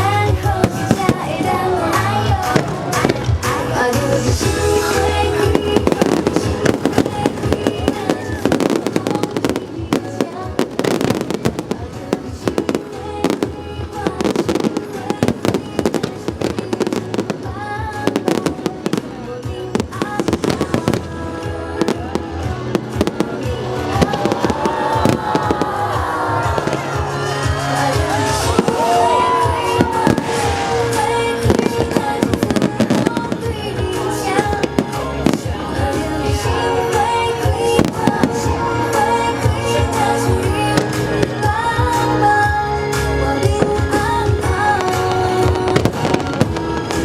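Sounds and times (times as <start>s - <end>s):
fireworks bangs and crackles: 0.0s - 47.0s
music from loudspeakers: 0.0s - 47.0s.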